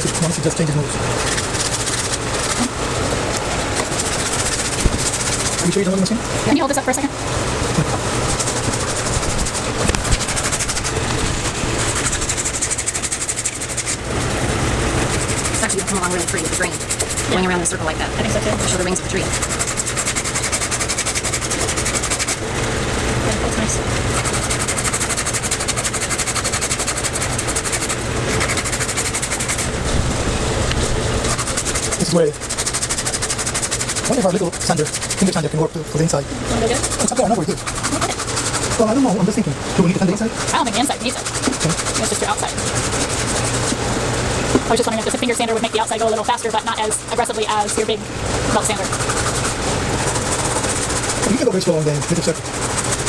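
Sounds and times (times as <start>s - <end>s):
electric belt sander ticking: 0.0s - 53.0s.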